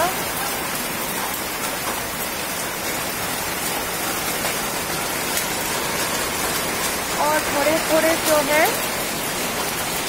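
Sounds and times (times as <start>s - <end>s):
raindrops tapping: 0.0s - 10.0s
steady rain hiss: 0.0s - 10.0s.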